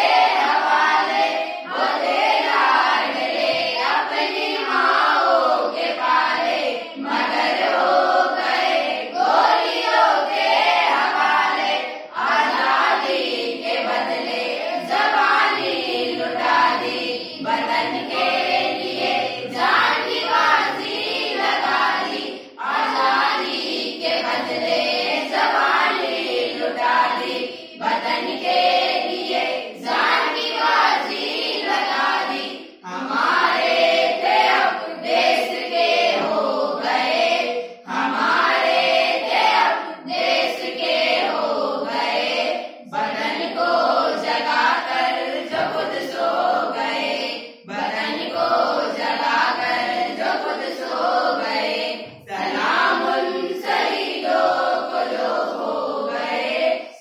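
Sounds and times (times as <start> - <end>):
children singing in unison: 0.0 - 57.0.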